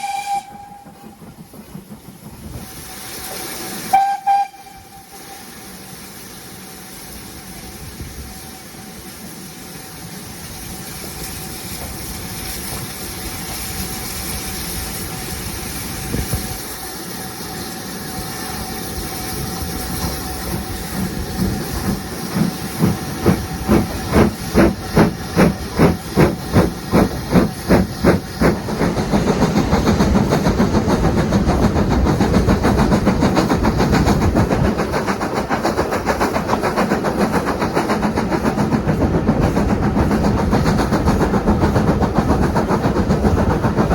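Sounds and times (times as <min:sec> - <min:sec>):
locomotive exhaust chuffs: 0:00.0 - 0:09.0, 0:09.8 - 0:43.9
steam locomotive hissing steam: 0:00.0 - 0:43.9.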